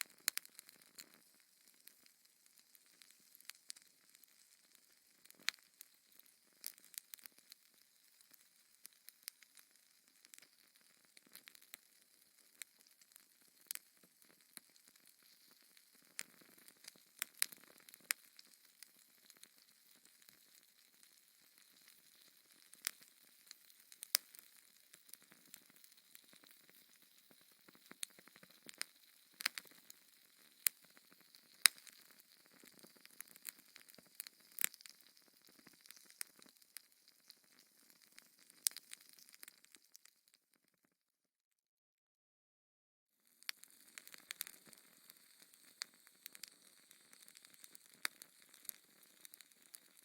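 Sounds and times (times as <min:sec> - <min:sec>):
faint steady hiss: 0:00.0 - 0:40.2, 0:43.2 - 0:50.0
wood fire crackling: 0:00.0 - 0:40.4, 0:43.4 - 0:50.0.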